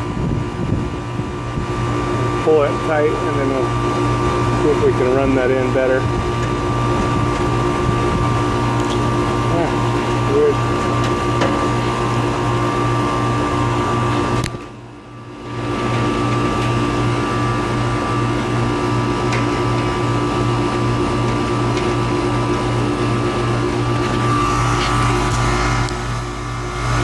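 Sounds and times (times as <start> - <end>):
air conditioner unit humming: 0.0 - 27.0.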